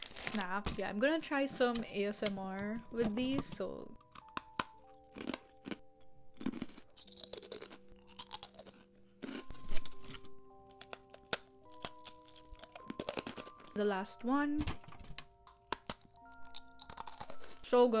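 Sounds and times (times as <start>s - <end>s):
crackers crunching: 0.0s - 13.8s, 14.6s - 17.6s
soft background music: 0.0s - 18.0s.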